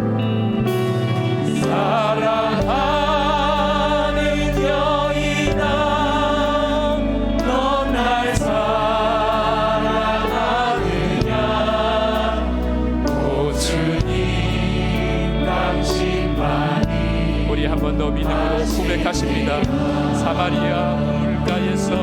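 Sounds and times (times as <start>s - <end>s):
bass: 0.0s - 22.0s
keyboard chords: 0.0s - 22.0s
people singing: 0.0s - 22.0s.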